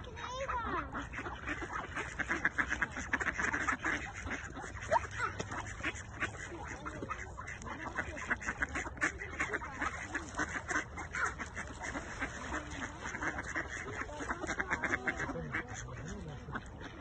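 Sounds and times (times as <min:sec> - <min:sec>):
ducks quacking: 0:00.0 - 0:17.0.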